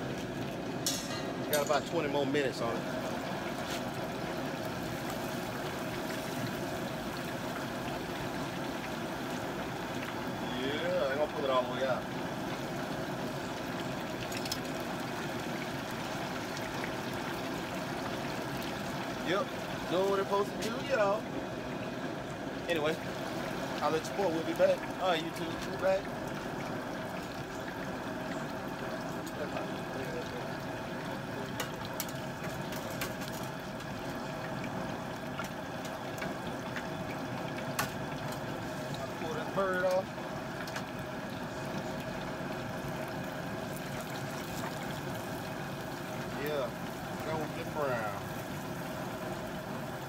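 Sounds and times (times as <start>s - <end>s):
hot oil bubbling: 0.0s - 50.0s.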